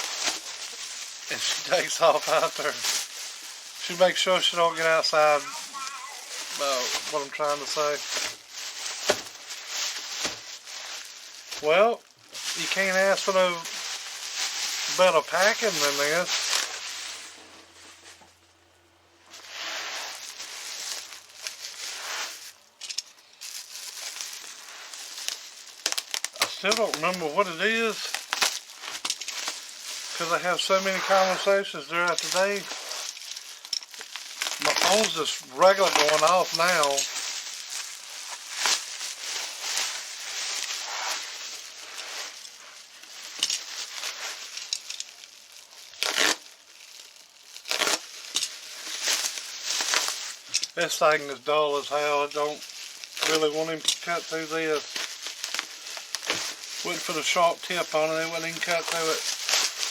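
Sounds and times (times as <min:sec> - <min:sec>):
packing material rustling: 0:00.0 - 0:18.2, 0:19.3 - 0:59.9.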